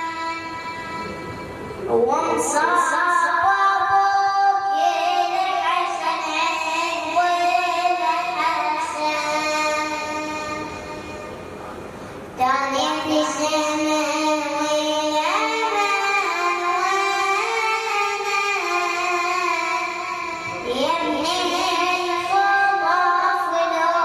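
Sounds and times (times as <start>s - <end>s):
child chanting a lament: 0.0s - 11.3s, 12.4s - 24.0s.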